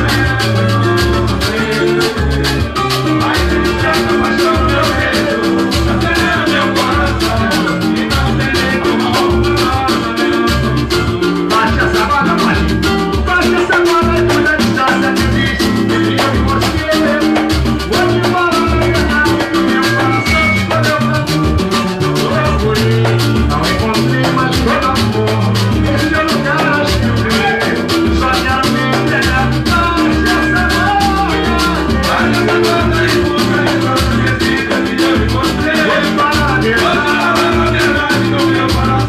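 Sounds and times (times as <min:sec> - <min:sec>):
samba band music: 0:00.0 - 0:39.0.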